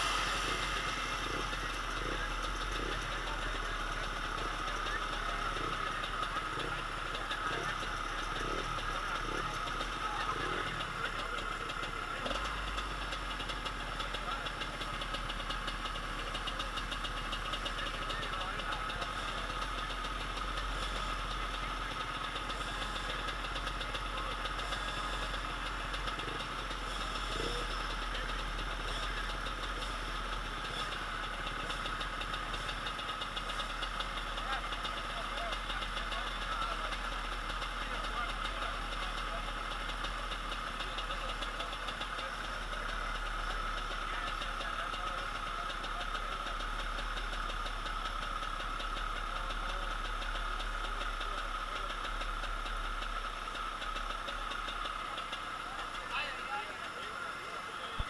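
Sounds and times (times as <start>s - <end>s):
motorcycle engines at high revs: 0.0s - 58.0s.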